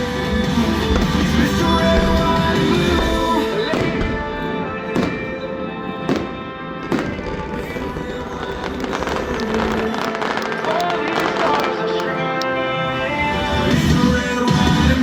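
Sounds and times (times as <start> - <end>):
fireworks bursting: 0.0 - 12.4
music: 0.0 - 15.0.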